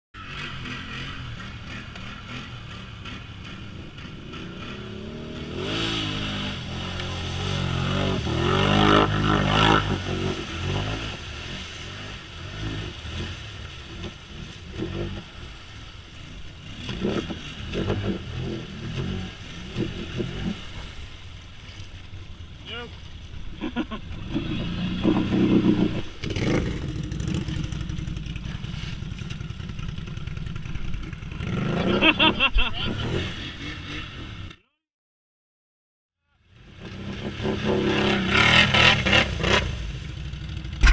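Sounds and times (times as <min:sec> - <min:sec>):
quad engine revving: 0:00.2 - 0:15.4, 0:16.5 - 0:20.9, 0:24.1 - 0:34.5, 0:36.6 - 0:40.9
tyres churning through mud: 0:00.2 - 0:34.5, 0:36.6 - 0:40.9.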